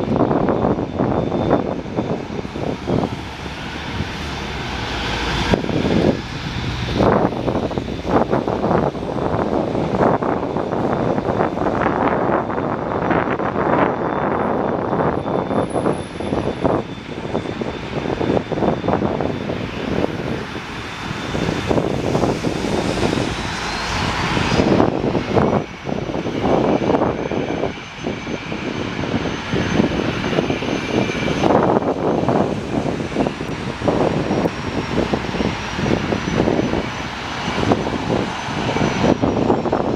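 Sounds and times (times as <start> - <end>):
airliner engines running: 0.0 - 39.9
high engine whine: 0.0 - 39.9.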